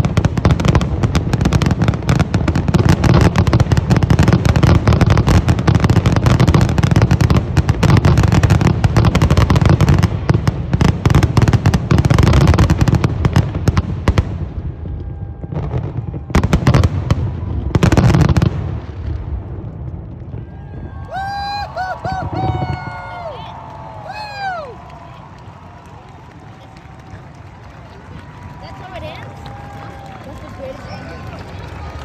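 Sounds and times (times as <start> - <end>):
fireworks cracking and booming: 0.0 - 30.2.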